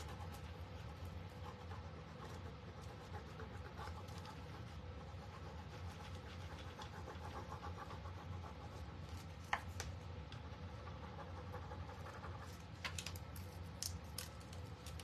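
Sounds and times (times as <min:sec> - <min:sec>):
stick rubbing on wood: 0:00.0 - 0:12.8
low steady hum: 0:00.0 - 0:15.0.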